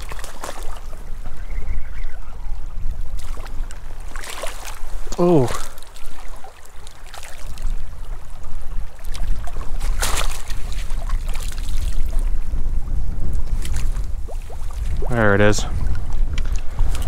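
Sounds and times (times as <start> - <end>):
stream water splashing: 0.0 - 1.6, 3.0 - 12.4, 13.4 - 17.0
footsteps along bank: 0.0 - 2.2, 2.8 - 12.4, 13.3 - 17.0
wind buffeting microphone: 0.0 - 17.0.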